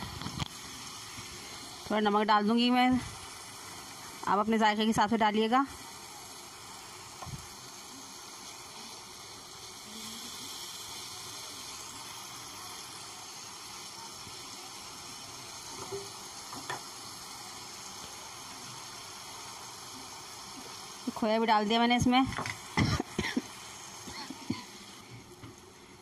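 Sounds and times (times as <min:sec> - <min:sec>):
paste sizzling in oil: 0:00.0 - 0:26.0.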